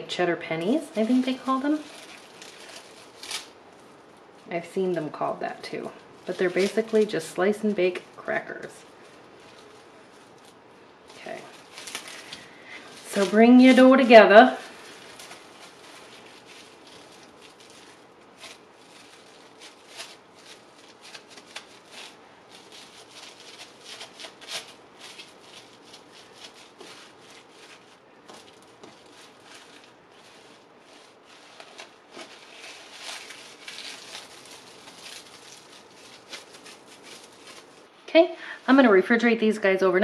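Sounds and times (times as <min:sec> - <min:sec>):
plastic wrap crinkling: 0:00.0 - 0:39.9.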